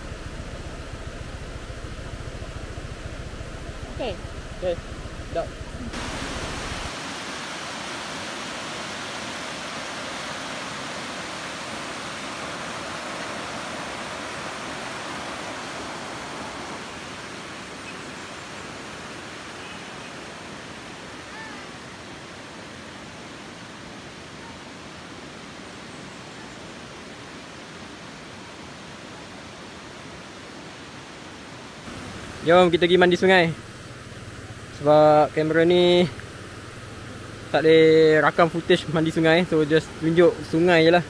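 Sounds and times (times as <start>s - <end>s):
river rapids rushing: 3.6s - 25.9s, 26.6s - 41.0s.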